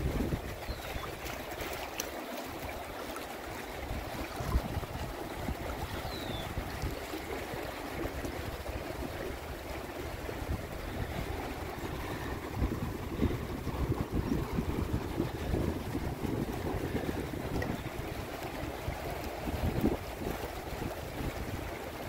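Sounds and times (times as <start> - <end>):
river water rushing and splashing: 0.0 - 22.0
wind rumble on microphone: 0.0 - 22.0.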